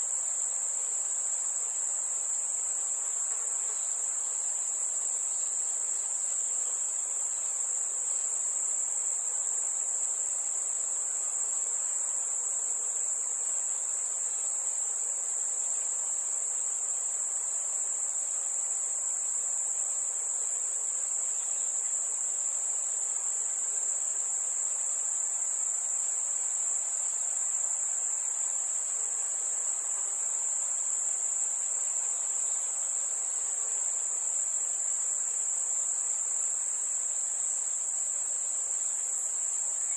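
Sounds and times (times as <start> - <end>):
crickets trilling: 0.0 - 39.9
faint even hiss: 0.0 - 39.9.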